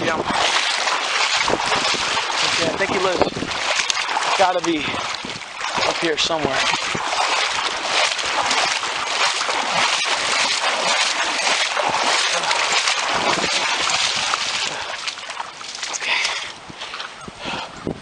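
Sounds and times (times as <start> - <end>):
footsteps wading through water: 0.0 - 18.0
water splashing and sloshing: 0.0 - 18.0.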